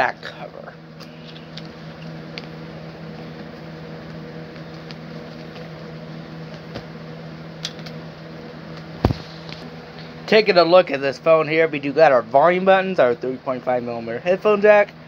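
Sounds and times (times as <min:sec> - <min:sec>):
appliance motor hum: 0:00.0 - 0:15.0.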